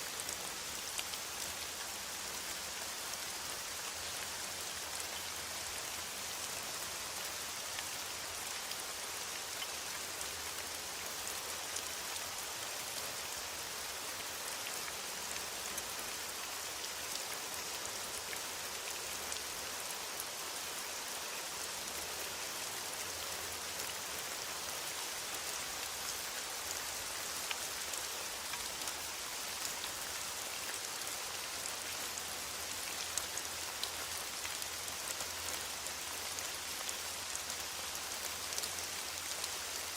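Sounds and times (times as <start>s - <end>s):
raindrops ticking on surfaces: 0.0s - 39.9s
steady rain hiss: 0.0s - 39.9s.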